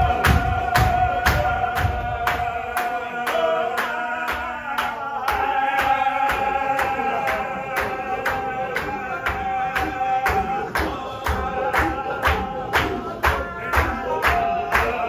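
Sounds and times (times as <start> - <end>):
men chanting together: 0.0 - 15.0
rhythmic hand claps: 0.0 - 15.0.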